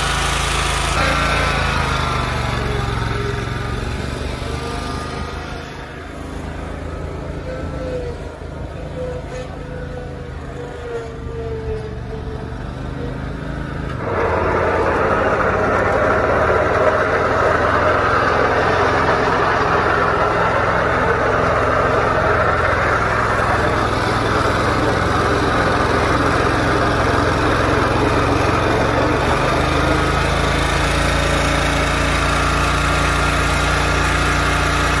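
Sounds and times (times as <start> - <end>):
mower engine running: 0.0 - 35.0.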